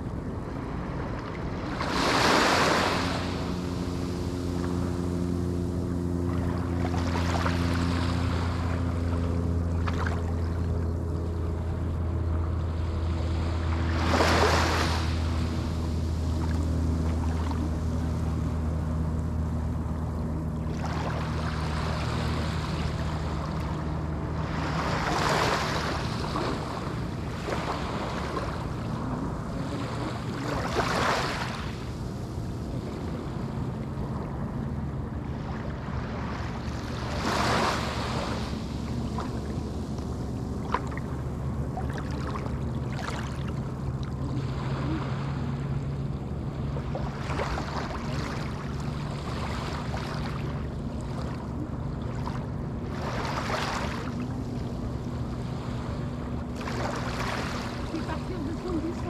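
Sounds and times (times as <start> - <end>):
waves breaking on sandy shore: 0.0 - 59.0.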